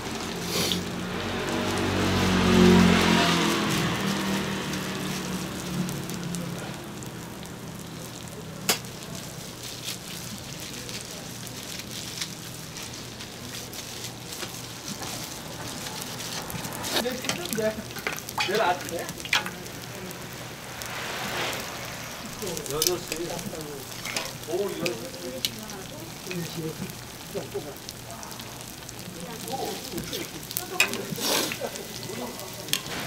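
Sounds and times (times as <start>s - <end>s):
pancakes sizzling in oil: 0.0s - 33.0s.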